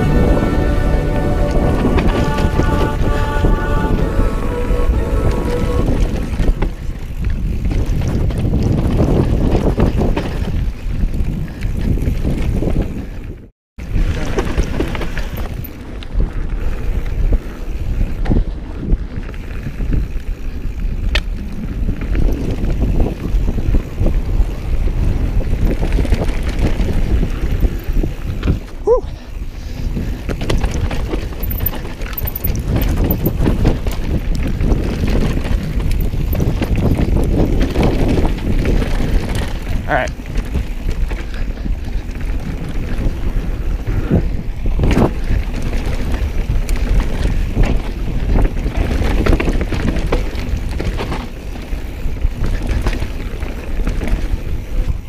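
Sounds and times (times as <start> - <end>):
bike tyres rolling on dirt trail: 0.0 - 55.0
wind buffeting microphone: 0.0 - 55.0
bike knocking and rattling: 5.9 - 55.0.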